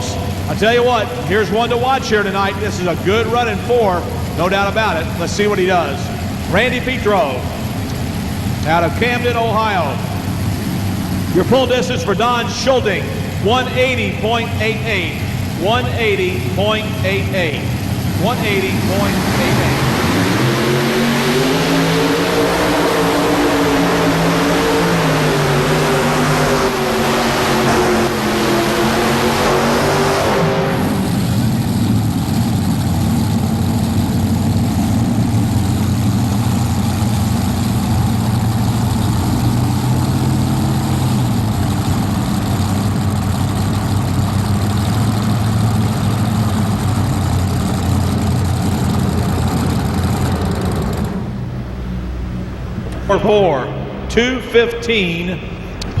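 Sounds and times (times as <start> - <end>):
tractor engines at full throttle: 0.0 - 56.0.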